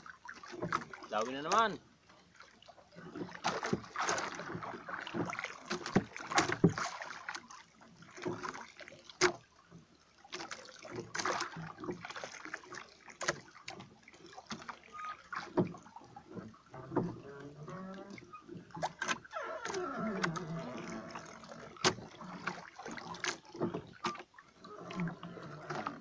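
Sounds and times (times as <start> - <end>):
knocks and rubbing on boat: 0.0 - 9.5, 10.3 - 26.0.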